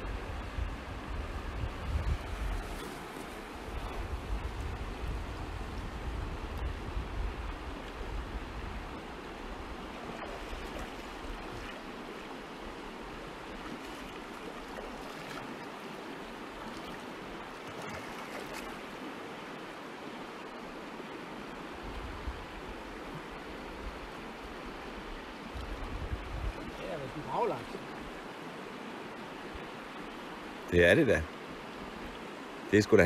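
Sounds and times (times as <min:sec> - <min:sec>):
river rushing over stones: 0:00.0 - 0:33.0.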